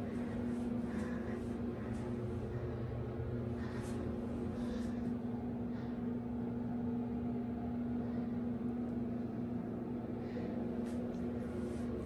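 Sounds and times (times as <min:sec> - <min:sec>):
ventilation fan humming: 0:00.0 - 0:12.0.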